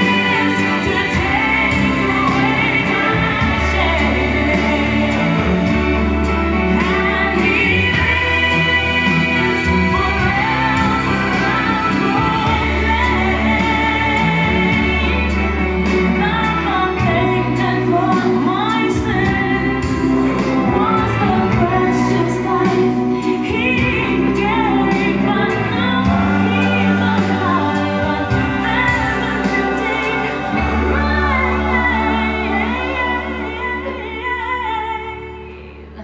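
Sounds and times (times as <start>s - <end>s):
band with bass and drums: 0.0s - 36.0s
person singing gospel: 0.0s - 36.0s.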